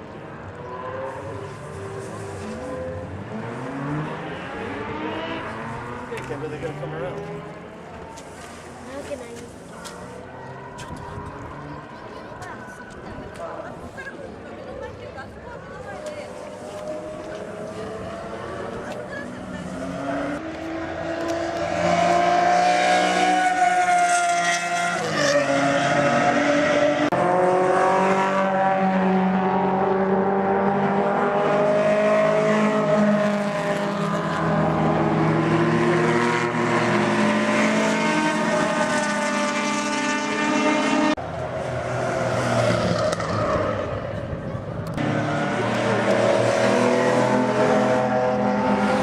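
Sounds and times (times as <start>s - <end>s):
race car engines accelerating: 0.0s - 49.0s.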